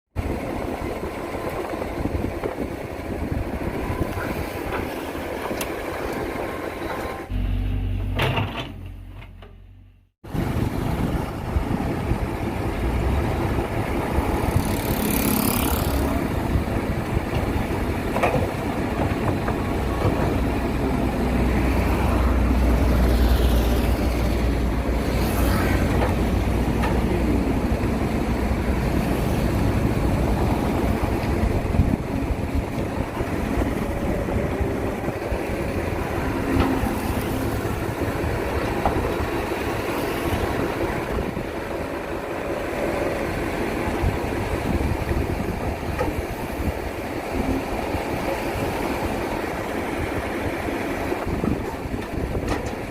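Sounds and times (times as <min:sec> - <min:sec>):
excavator diesel engine running: 0:00.2 - 0:52.9.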